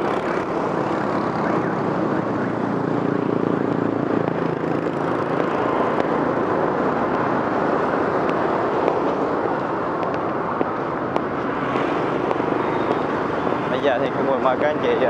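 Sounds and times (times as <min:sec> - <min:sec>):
passing traffic: 0:00.0 - 0:15.0.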